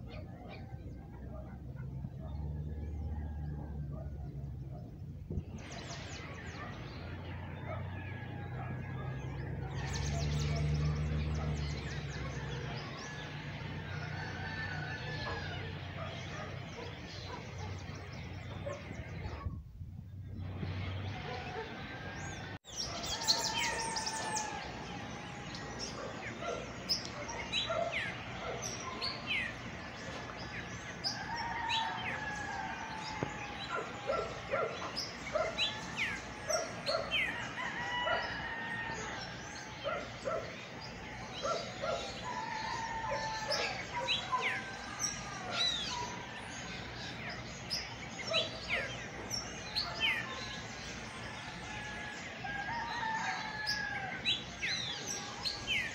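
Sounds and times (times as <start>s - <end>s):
birds chirping: 0.0s - 55.9s
steady outdoor hiss: 0.0s - 55.9s.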